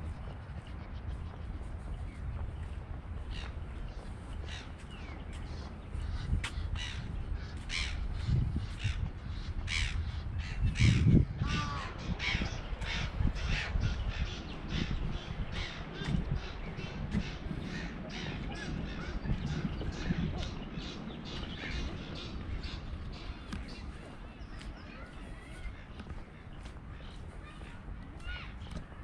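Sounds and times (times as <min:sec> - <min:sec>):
steady low rumble: 0:00.0 - 0:28.1
birds giving harsh calls: 0:03.2 - 0:27.3.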